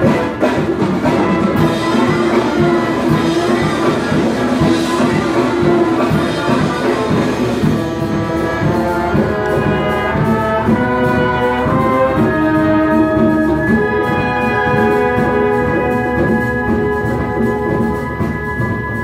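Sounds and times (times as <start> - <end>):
symphony orchestra playing: 0.0 - 19.0.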